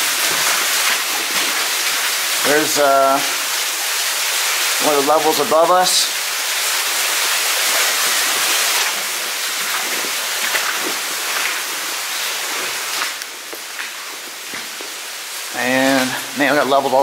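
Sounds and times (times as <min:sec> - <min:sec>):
water rushing down a shaft: 0:00.0 - 0:17.0.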